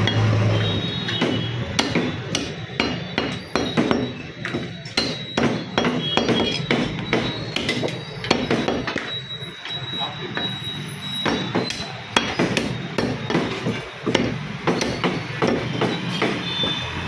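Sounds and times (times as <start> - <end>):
cleaver chopping meat and bone: 0.0 - 9.2, 11.2 - 16.9.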